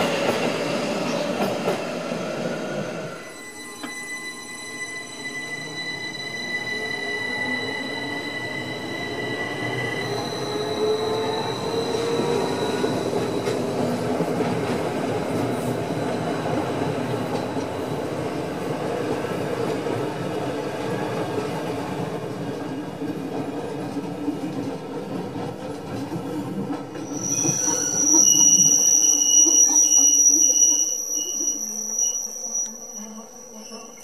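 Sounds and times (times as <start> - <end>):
train wheels rumbling on rails: 0.0 - 4.0, 7.2 - 30.8.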